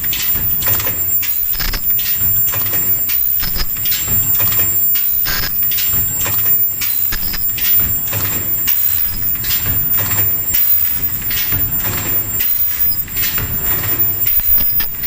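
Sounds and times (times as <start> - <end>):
machine hum and whine: 0.0 - 15.0.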